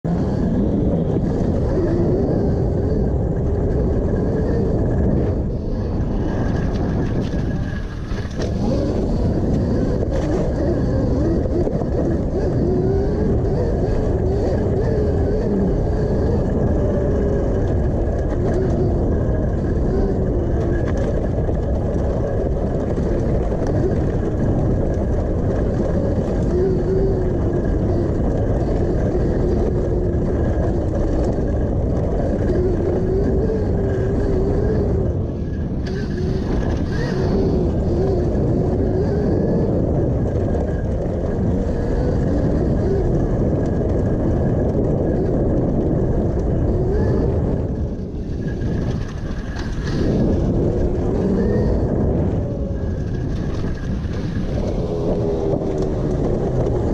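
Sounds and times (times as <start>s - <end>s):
electric motor whining: 0.0s - 56.9s
heavy rumble from dirt trail: 0.0s - 56.9s.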